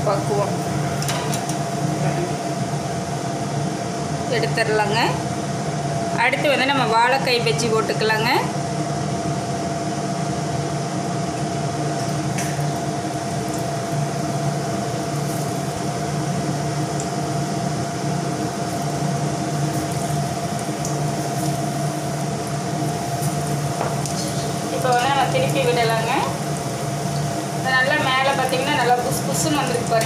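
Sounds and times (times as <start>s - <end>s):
mechanical hum: 0.0s - 30.0s.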